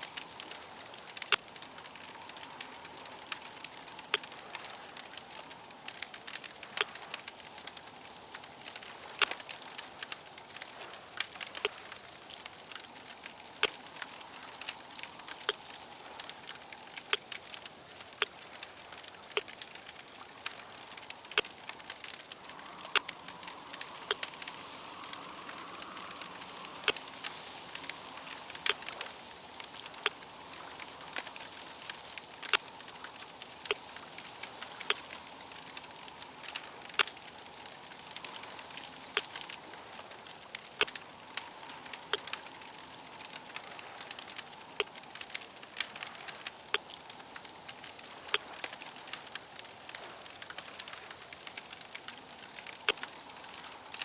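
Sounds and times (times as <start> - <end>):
fire crackling: 0.0 - 54.0
fire pops and snaps: 0.0 - 54.0.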